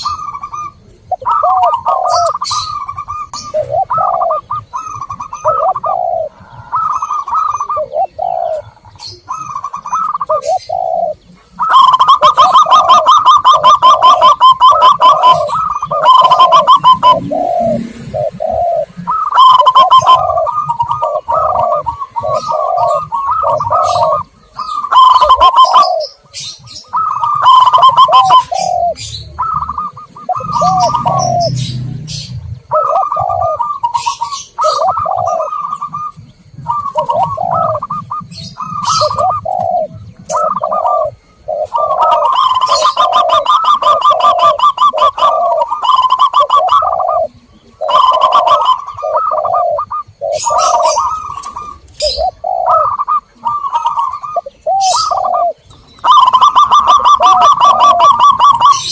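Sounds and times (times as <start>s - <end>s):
doves cooing: 0.0s - 58.9s
high bird chirps: 0.0s - 58.9s.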